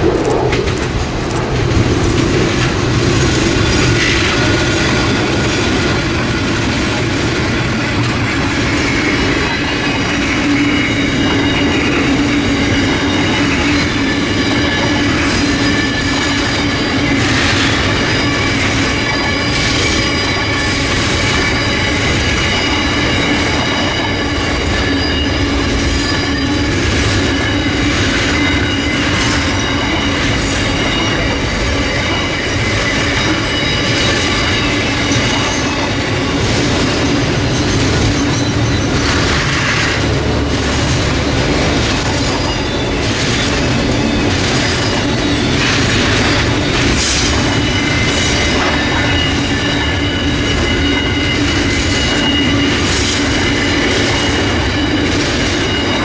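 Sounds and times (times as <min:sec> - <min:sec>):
freight train passing: 0:00.0 - 0:56.0
wheel squeal: 0:03.4 - 0:56.0.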